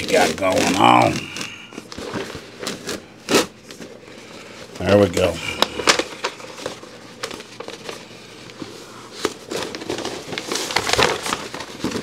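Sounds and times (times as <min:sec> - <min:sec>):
adhesive wrap crinkling: 0:00.0 - 0:12.0.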